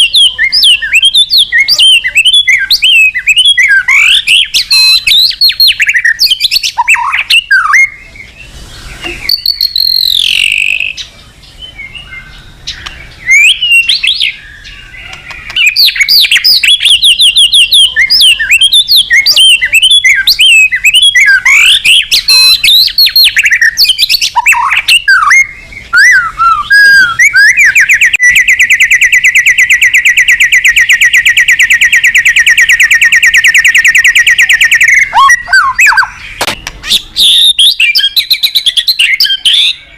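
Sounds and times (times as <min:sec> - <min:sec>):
bird fast trill: 0:00.0 - 0:39.9
bird singing whistles and chirps: 0:00.0 - 0:39.9.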